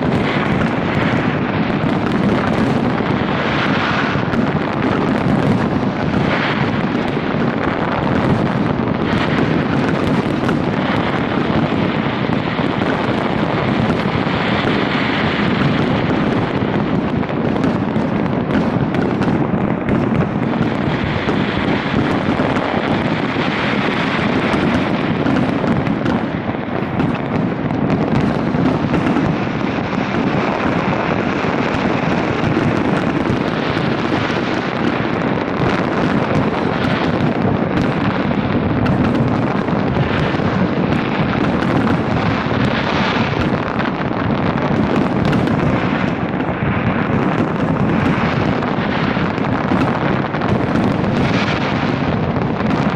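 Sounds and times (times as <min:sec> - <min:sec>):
fireworks explosions and crackles: 0:00.0 - 0:52.9.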